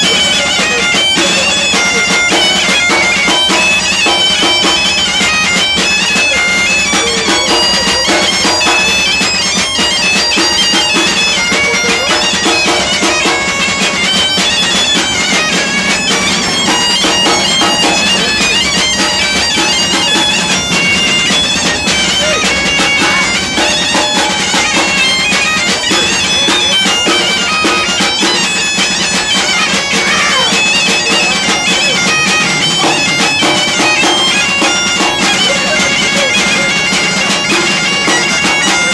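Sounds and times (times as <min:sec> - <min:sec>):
bagpipe melody with drone: 0:00.0 - 0:38.9.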